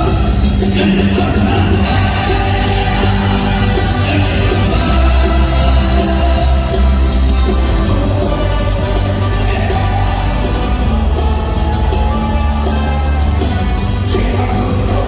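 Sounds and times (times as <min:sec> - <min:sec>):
live band playing praise song: 0:00.0 - 0:15.0.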